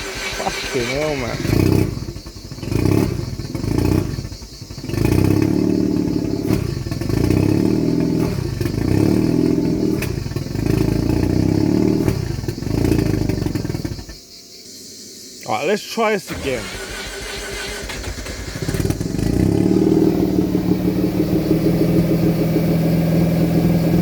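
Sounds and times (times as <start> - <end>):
car engine surging unevenly: 0.0 - 14.2, 16.2 - 24.0.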